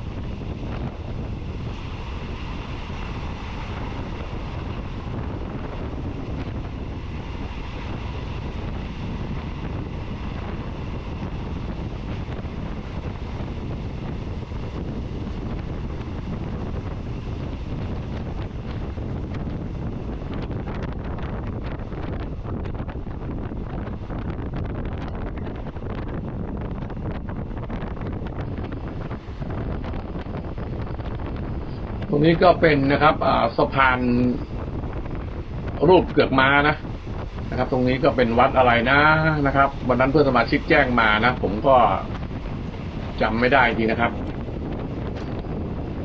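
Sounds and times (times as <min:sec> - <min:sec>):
train rumbling: 0:00.0 - 0:46.0
wind buffeting microphone: 0:00.0 - 0:46.0.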